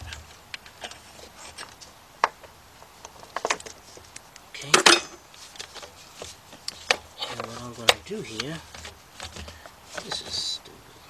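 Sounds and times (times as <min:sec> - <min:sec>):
light clicks and knocks of parts: 0:00.0 - 0:10.5.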